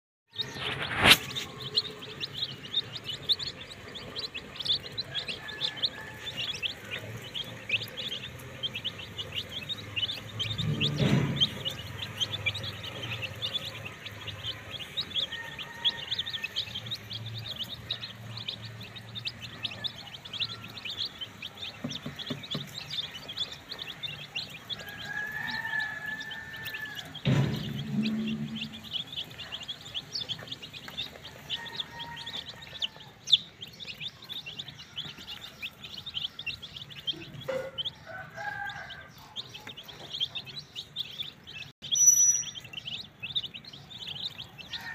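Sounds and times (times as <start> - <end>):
chicks peeping: 0.3 - 44.9.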